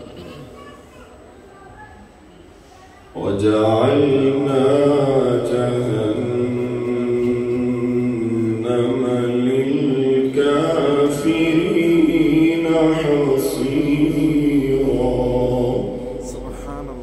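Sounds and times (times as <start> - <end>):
man chanting melodically: 3.2 - 17.0.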